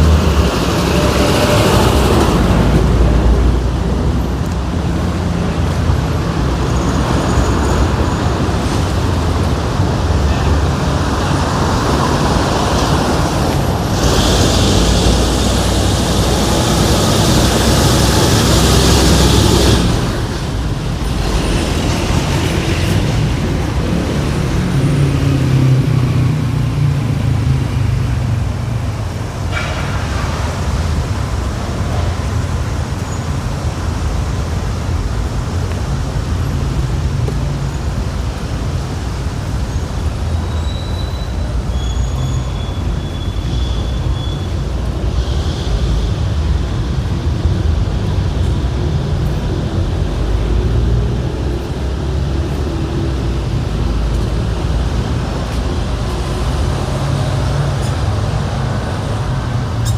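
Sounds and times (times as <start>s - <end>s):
heavy engine passing: 0.0s - 59.9s
passing vehicles rumbling: 0.0s - 59.9s.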